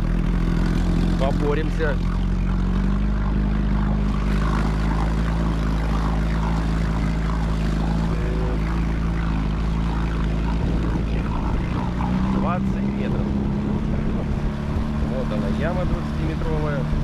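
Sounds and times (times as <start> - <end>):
outboard motor humming: 0.0 - 17.0.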